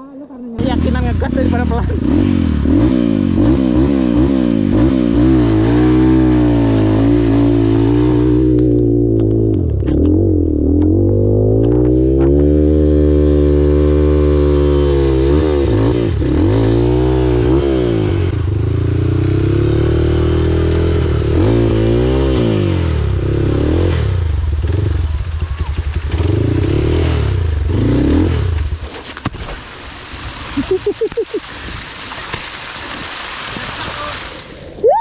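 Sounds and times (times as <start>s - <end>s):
dirt bike engine revving: 0.6s - 28.9s.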